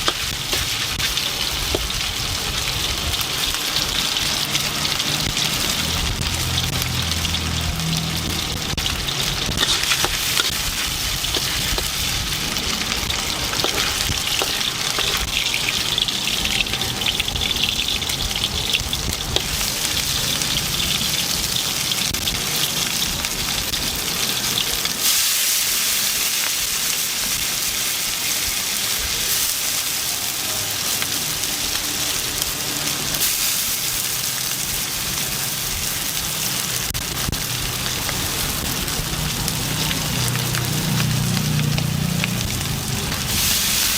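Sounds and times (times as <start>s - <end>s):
food sizzling in a wok: 0.0s - 43.9s.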